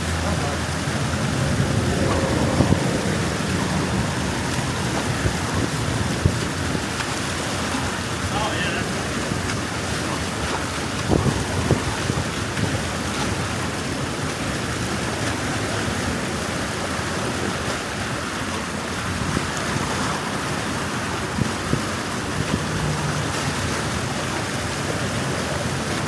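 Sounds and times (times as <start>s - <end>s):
water rushing through dam: 0.0s - 26.0s.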